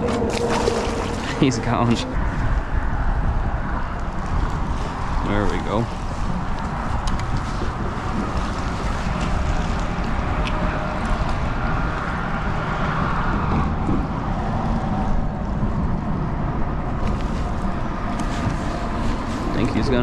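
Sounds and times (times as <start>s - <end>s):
water lapping around kayak: 0.0s - 20.0s
wind buffeting microphone: 0.0s - 20.0s.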